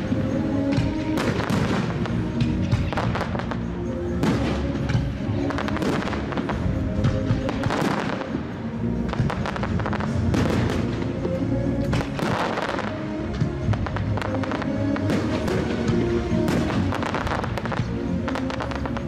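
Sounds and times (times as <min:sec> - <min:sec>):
fireworks crackling: 0:00.0 - 0:19.0
music: 0:00.0 - 0:19.0.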